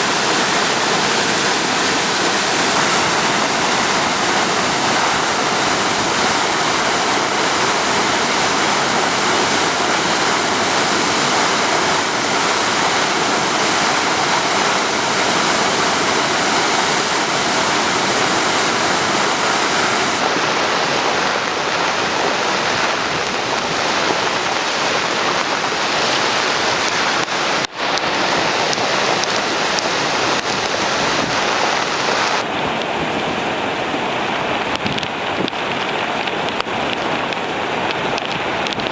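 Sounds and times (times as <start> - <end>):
fast-flowing river rushing: 0.0 - 38.9.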